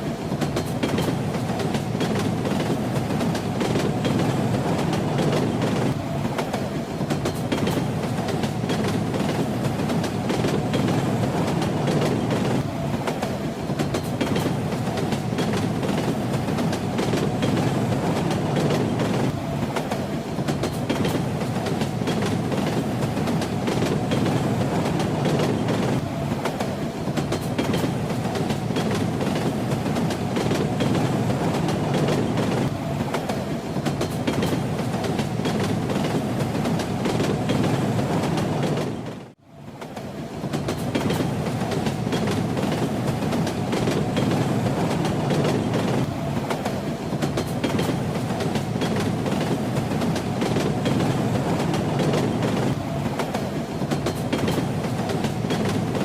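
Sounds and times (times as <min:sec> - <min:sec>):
train wheels knocking on rails: 0:00.0 - 0:39.2, 0:40.4 - 0:56.0.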